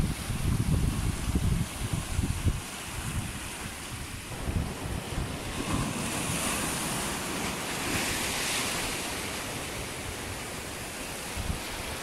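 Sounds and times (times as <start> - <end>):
sea waves breaking on rocks: 0.0 - 12.0
wind buffeting microphone: 0.0 - 12.0.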